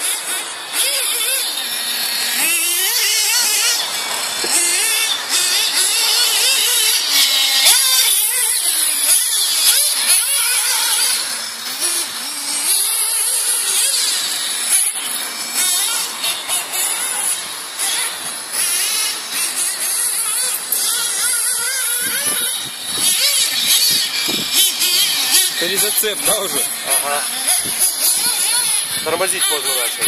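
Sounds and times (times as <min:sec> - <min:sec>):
small nitro engine whining: 0:00.0 - 0:30.0.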